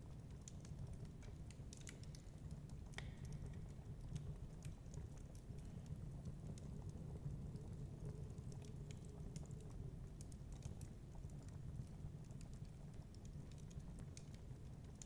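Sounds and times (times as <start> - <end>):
low fire rumble: 0.0 - 15.0
wood fire crackling: 0.0 - 15.0.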